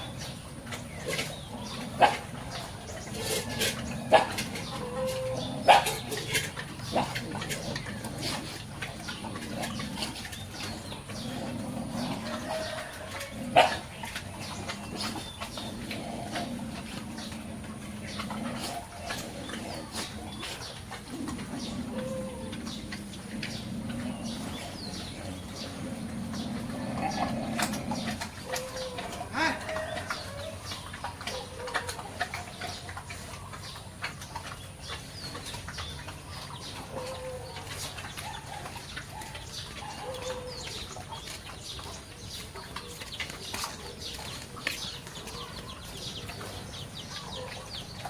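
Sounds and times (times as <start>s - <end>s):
pigs grunting: 0.0s - 48.0s.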